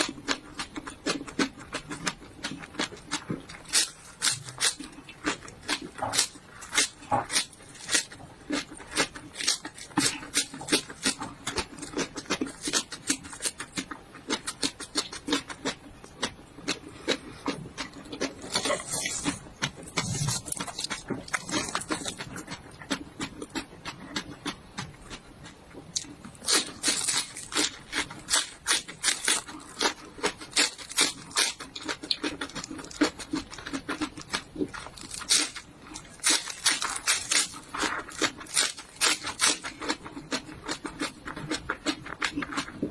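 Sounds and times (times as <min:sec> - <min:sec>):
chewing crunchy raw vegetables: 0:00.0 - 0:42.9.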